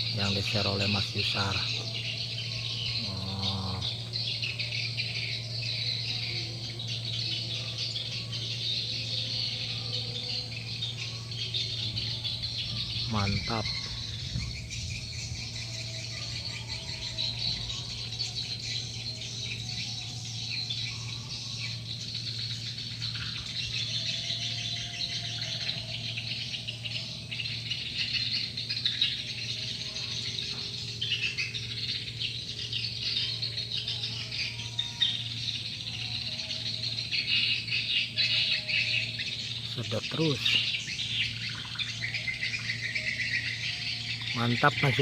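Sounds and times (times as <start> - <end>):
steady low hum: 0.0 - 45.0
swiftlets twittering and chattering: 0.0 - 45.0.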